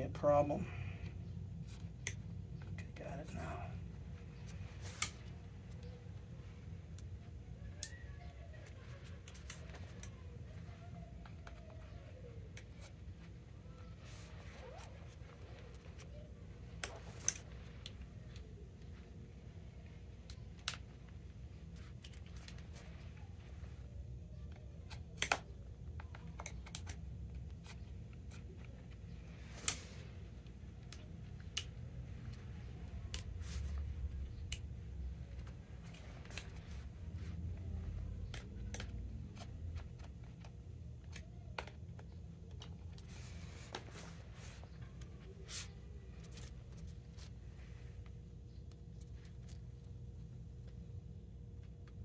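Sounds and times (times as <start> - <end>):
low rubbing and handling noise: 1.2 - 26.3, 26.9 - 52.0.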